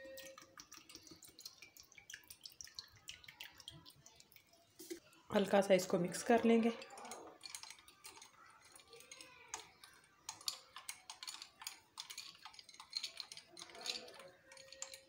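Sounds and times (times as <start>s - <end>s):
spoon clinking ice in glass: 0.0s - 3.8s, 6.4s - 15.0s.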